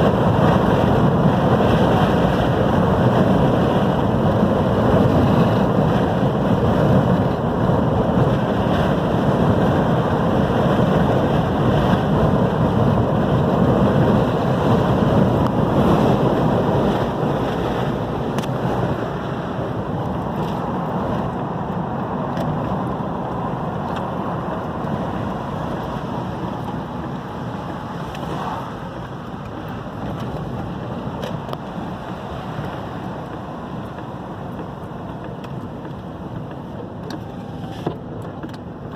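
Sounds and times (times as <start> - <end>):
ocean surf: 0.0 - 38.9
strong wind buffeting microphone: 0.0 - 38.9.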